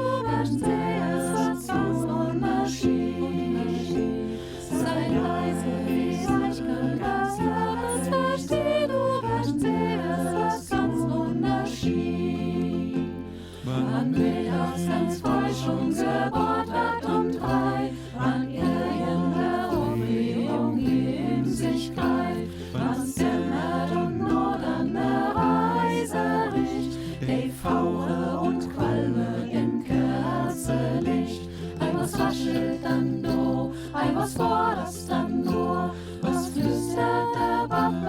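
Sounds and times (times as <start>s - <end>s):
choir singing in harmony: 0.0s - 38.0s.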